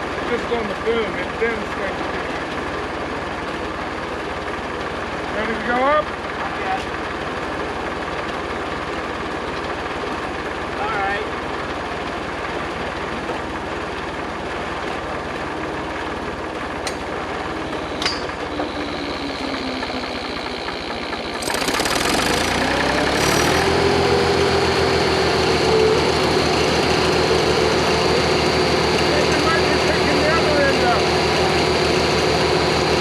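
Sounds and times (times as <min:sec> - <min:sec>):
engine idling and revving: 0:00.0 - 0:33.0.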